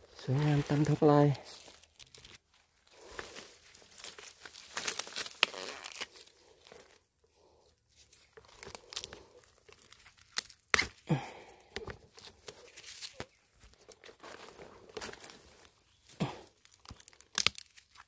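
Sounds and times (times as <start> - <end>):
bamboo leaves rustling and snapping: 0.0 - 7.1, 7.9 - 18.0.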